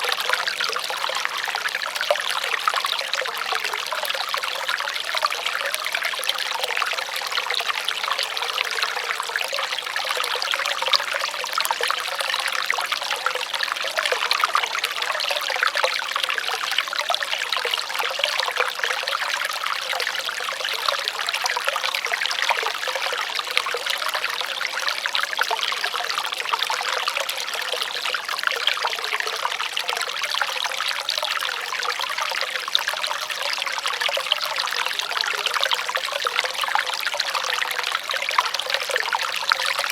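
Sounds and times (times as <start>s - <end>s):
water trickling in a stream: 0.0s - 39.9s.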